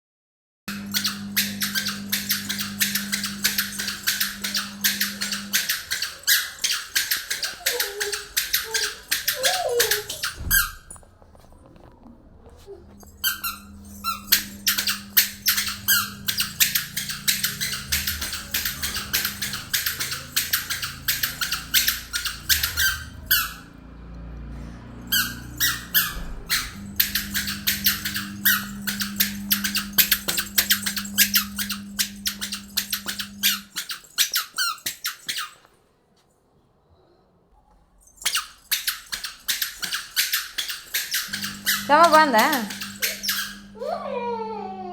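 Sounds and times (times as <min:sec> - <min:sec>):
squeaky shoes squeaking: 0:00.7 - 0:23.8, 0:24.5 - 0:35.7, 0:38.1 - 0:43.8.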